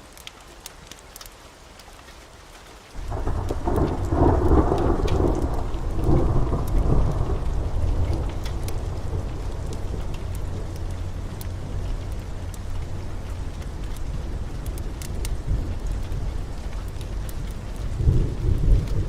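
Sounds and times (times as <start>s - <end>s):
rain falling: 0.0s - 19.0s
sharp crackles: 2.9s - 19.0s
deep thunder rumbling: 3.0s - 19.0s.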